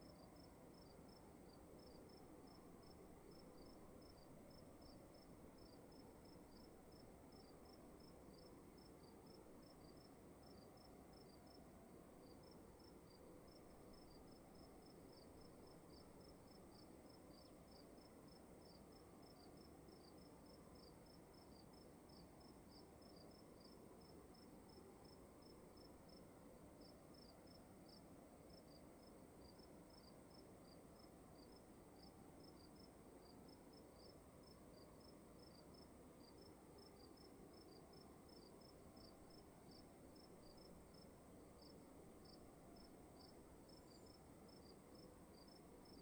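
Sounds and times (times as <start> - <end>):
crickets chirping: 0.0 - 11.6, 12.2 - 46.0
low steady hiss: 0.0 - 46.0.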